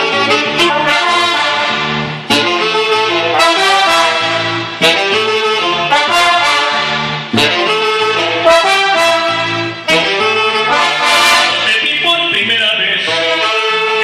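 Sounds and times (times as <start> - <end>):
brass section playing: 0.0 - 14.0.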